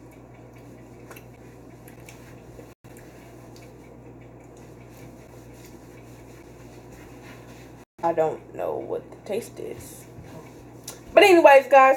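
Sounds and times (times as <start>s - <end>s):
low room hum: 0.0s - 11.9s.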